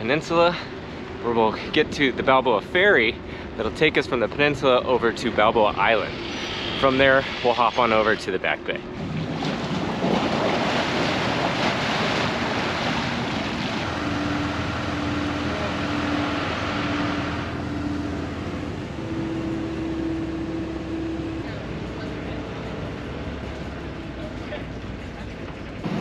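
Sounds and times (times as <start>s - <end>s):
ferry engine humming: 0.0s - 26.0s
water noise: 0.0s - 26.0s.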